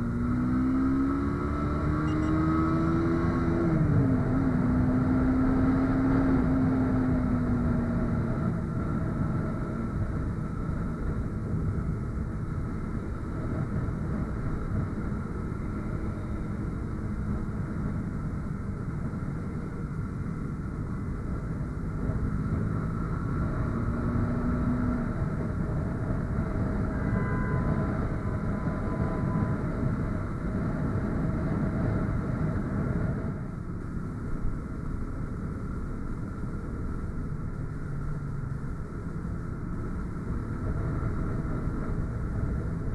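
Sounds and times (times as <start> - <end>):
wind and road noise: 0.0 - 42.9.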